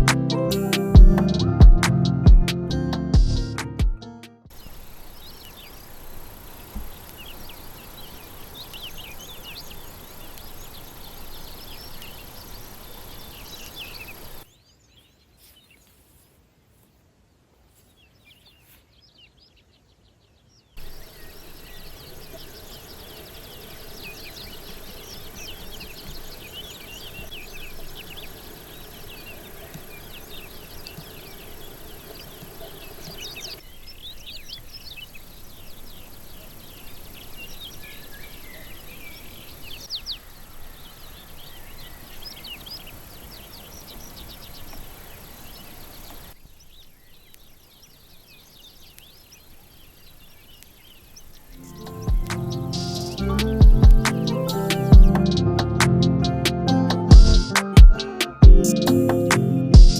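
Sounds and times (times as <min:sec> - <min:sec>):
steady outdoor hiss: 0:00.0 - 0:03.6, 0:04.5 - 0:59.9
birds chirping and trilling: 0:04.5 - 0:16.3, 0:17.7 - 0:59.9.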